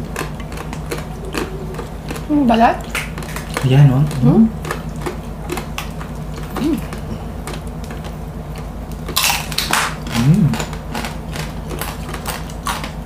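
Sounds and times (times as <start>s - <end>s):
chewing crunch: 0.0s - 13.0s
crispy skin crackling: 0.0s - 13.0s.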